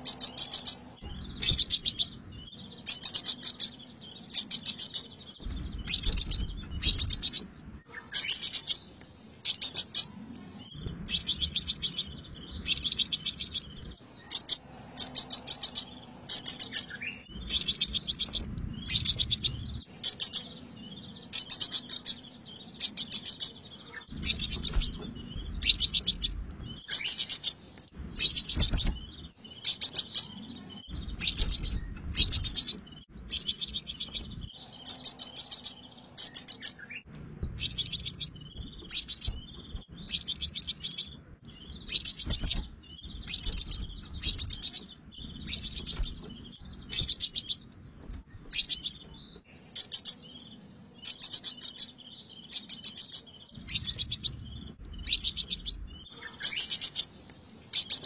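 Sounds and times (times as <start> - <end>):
bird trilled chirps: 0.0 - 58.0.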